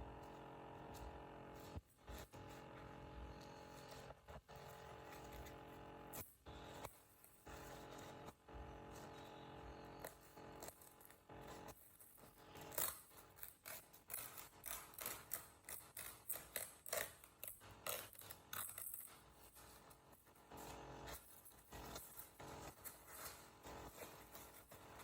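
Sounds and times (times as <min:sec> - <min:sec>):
faint laptop hum: 0:00.0 - 0:25.0.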